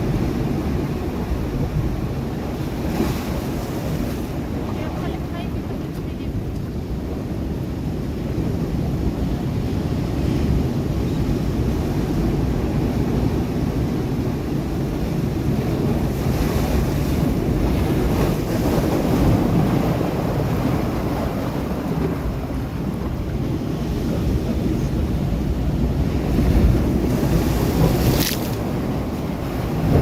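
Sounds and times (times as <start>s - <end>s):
surf rumbling on rocks: 0.0s - 30.0s
wind buffeting microphone: 0.0s - 30.0s.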